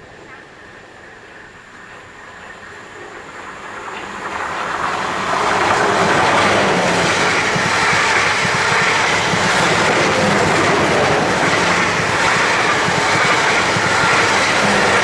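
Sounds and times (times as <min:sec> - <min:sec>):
train wheels rushing on rail: 0:00.0 - 0:15.0.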